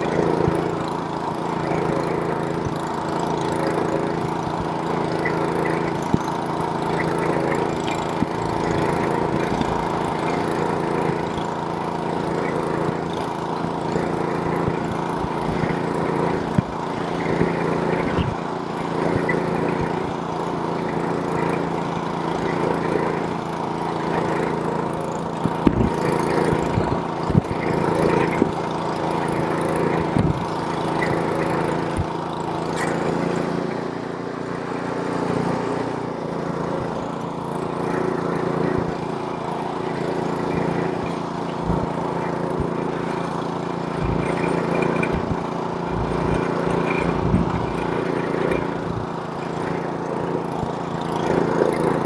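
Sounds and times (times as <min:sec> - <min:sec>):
small gas engine running: 0:00.0 - 0:52.0.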